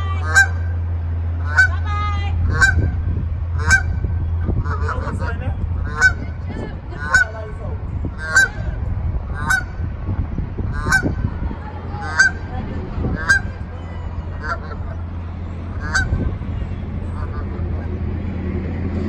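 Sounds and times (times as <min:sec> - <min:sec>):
goose honking: 0:00.0 - 0:07.5, 0:08.1 - 0:09.8, 0:10.7 - 0:18.0
steady low hum: 0:00.0 - 0:19.0.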